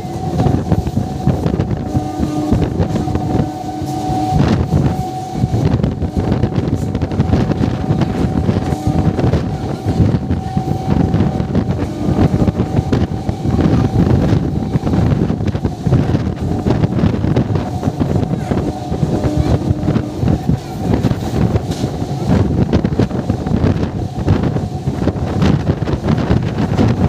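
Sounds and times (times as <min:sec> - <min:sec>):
steady whine: 0:00.0 - 0:27.0
train wheels rumbling on rail: 0:00.0 - 0:27.0
wind rushing over microphone: 0:00.0 - 0:27.0.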